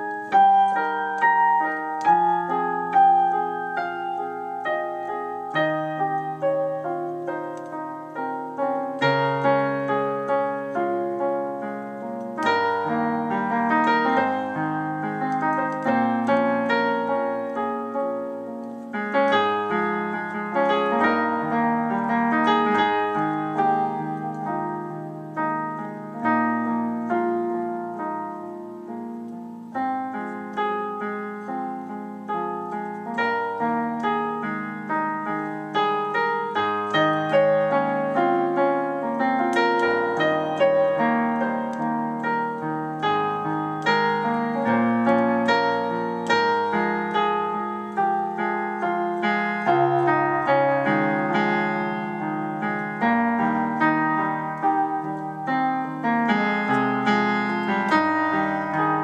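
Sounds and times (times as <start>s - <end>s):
digital piano improvisation: 0.0s - 59.0s.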